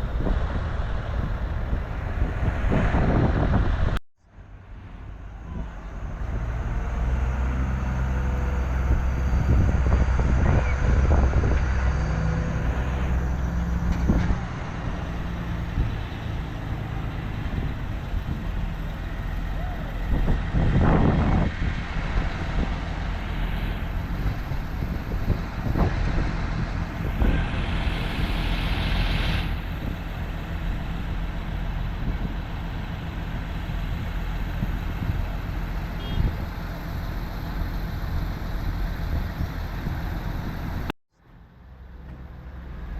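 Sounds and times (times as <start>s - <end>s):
tractor engines running: 0.0s - 42.9s.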